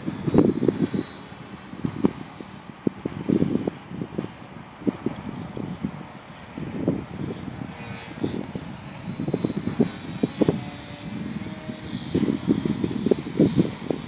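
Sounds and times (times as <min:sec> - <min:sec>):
model plane motor whine: 0:00.0 - 0:14.0
wind buffeting microphone: 0:00.0 - 0:14.0.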